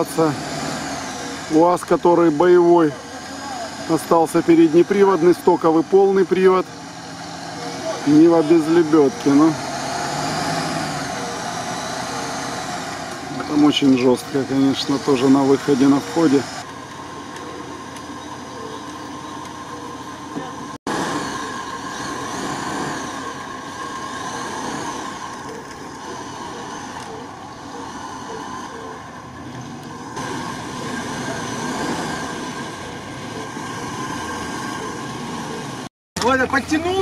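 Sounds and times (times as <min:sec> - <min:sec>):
off-road vehicle engines running: 0:00.0 - 0:37.0
steady winch whine: 0:00.0 - 0:37.0.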